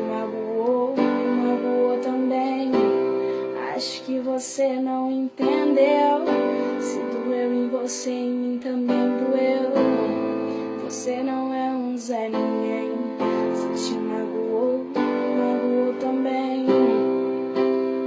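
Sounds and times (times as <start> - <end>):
keyboard chords: 0.0 - 18.0.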